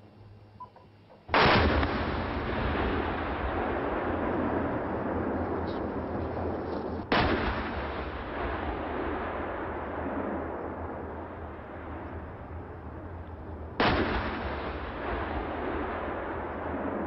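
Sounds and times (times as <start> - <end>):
background noise: 0.0 - 17.0
explosion rumble: 1.3 - 17.0
loud blast: 1.3 - 17.0.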